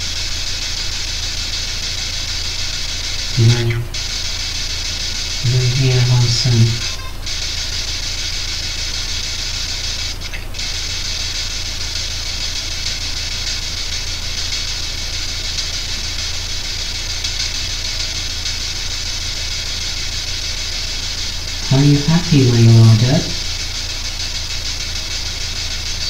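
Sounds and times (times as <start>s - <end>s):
low electrical hum: 0.0s - 26.0s
radio static hiss: 0.0s - 26.0s.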